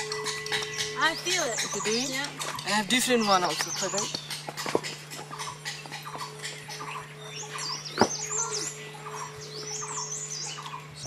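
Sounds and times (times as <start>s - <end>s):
singing bowl ringing: 0.0s - 4.0s, 5.4s - 11.0s.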